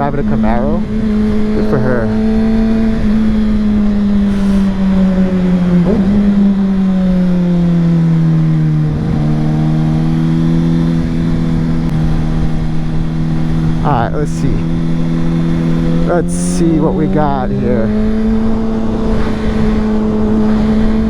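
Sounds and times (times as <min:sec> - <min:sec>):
motorcycle engine at road speed: 0:00.0 - 0:21.0.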